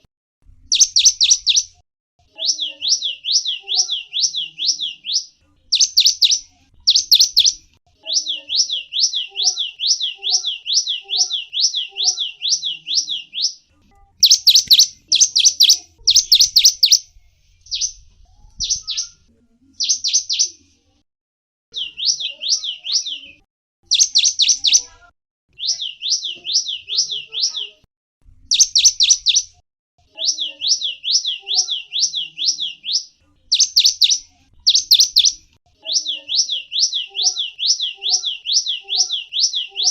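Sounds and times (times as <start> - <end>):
songbird chirping: 0.0 - 21.0, 21.7 - 39.9.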